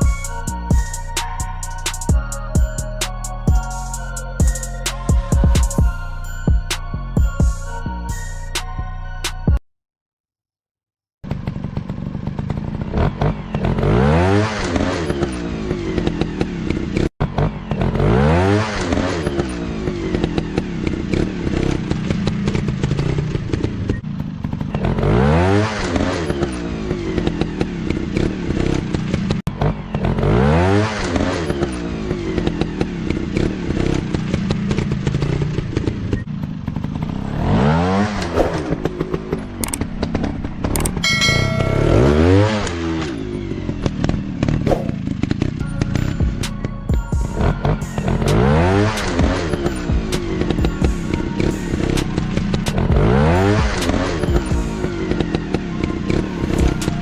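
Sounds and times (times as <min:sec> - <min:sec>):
motorcycle engine revving: 0:11.2 - 0:57.0.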